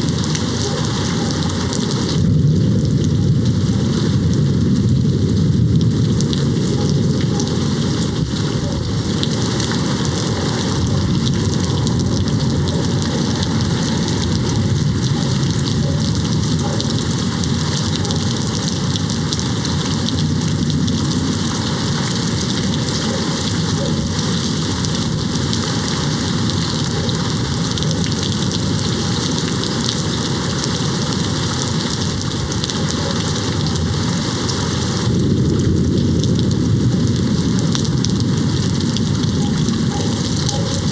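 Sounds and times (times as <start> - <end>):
rain hitting a window: 0.0 - 40.9.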